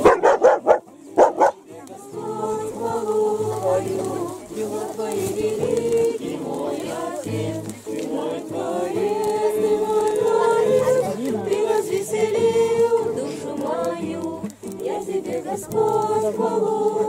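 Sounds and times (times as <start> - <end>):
group singing a hymn: 0.0 - 17.0.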